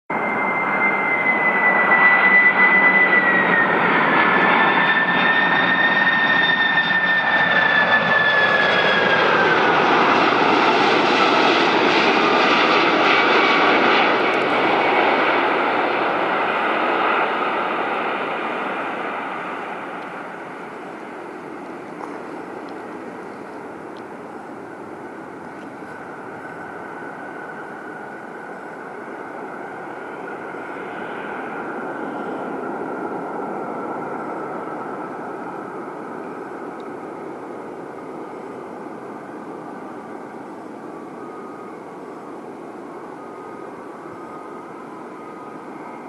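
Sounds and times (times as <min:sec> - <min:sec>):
jet engines passing: 0:00.1 - 0:46.0.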